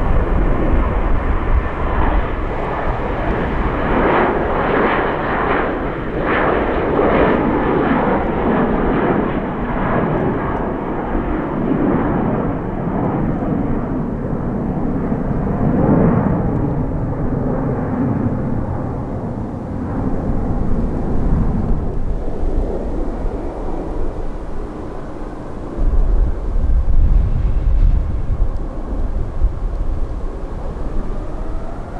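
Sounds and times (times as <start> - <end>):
jet airliner engines: 0.0 - 31.9.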